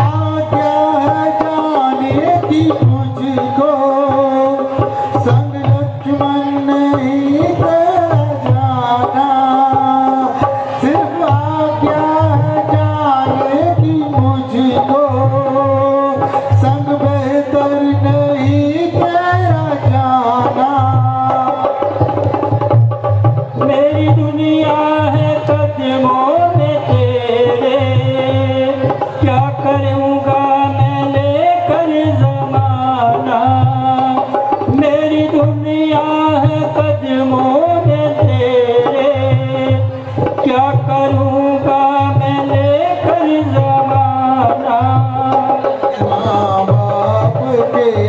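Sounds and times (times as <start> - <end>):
tabla beat: 0.0 - 48.0.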